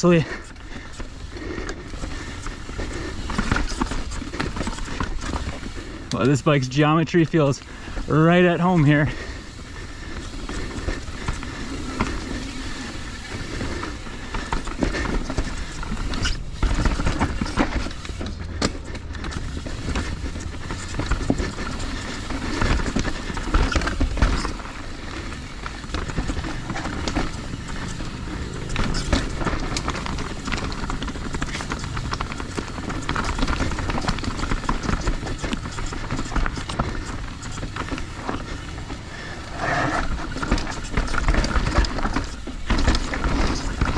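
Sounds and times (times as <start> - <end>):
bike rattling and knocking: 0.0 - 43.9
tyres rushing on dirt and rock: 0.0 - 43.9.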